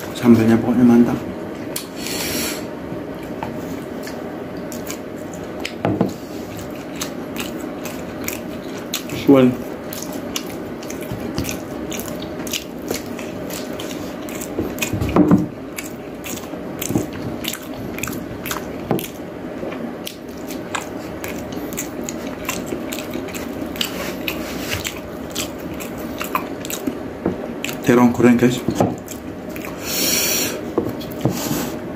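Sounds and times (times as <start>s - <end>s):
man chewing food: 1.4s - 31.9s.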